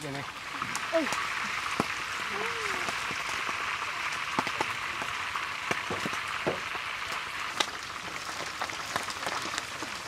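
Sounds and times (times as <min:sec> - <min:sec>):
fish frying in a metal pan: 0:00.0 - 0:10.0
oil popping and crackling: 0:00.0 - 0:10.0.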